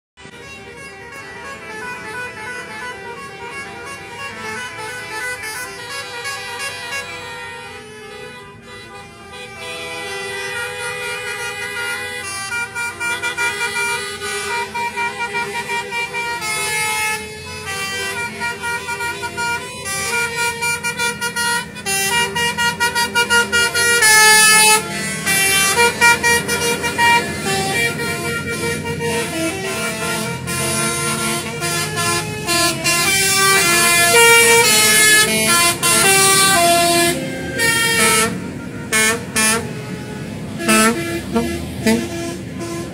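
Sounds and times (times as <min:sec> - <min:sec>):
multi-tone musical horn melody: 0:00.2 - 0:42.9
vehicle engine noise: 0:00.2 - 0:42.9.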